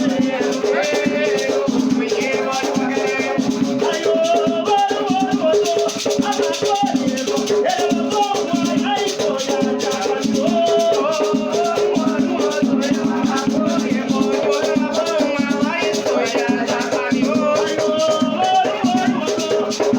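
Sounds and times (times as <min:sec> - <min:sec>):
voices singing a chant: 0:00.0 - 0:19.9.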